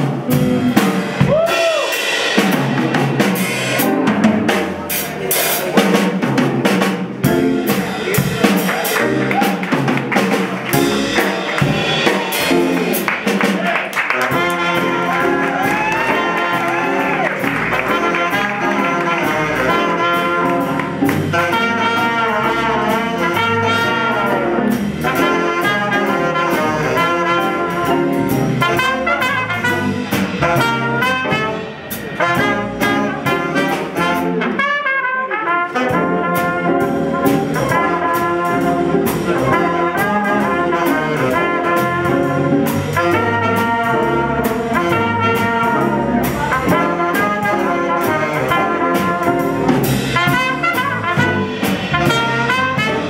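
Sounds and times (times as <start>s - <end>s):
jazz big band playing: 0.0s - 53.0s.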